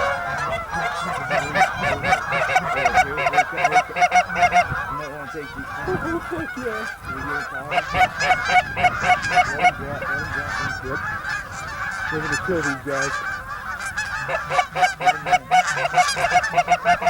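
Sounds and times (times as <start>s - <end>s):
goose honking: 0.0s - 17.0s.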